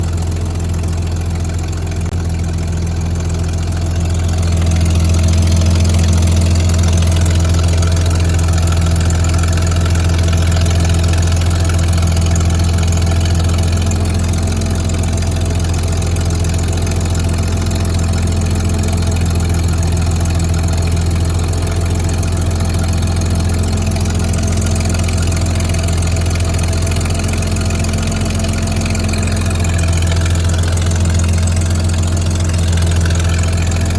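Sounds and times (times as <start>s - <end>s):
petrol engine idling: 0.0s - 33.9s.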